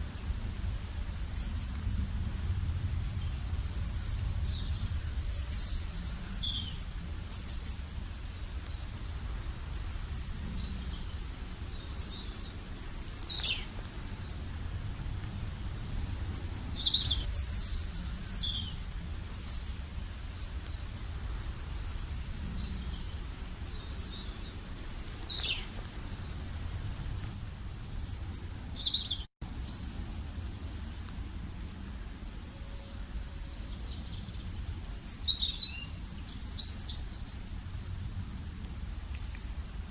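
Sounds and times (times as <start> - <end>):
small birds chirping: 0.0 - 29.8, 31.8 - 37.9, 38.7 - 39.9
steady low rumble: 0.0 - 39.9.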